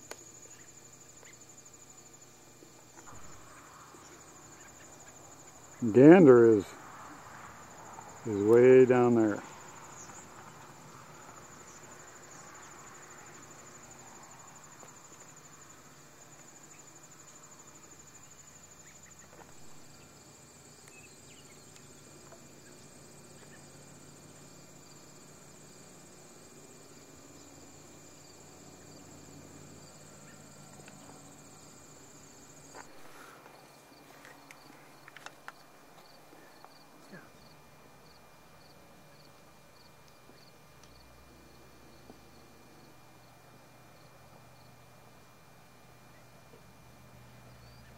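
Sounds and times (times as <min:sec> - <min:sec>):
insects trilling: 0:00.0 - 0:47.9
low steady hum: 0:00.0 - 0:47.9.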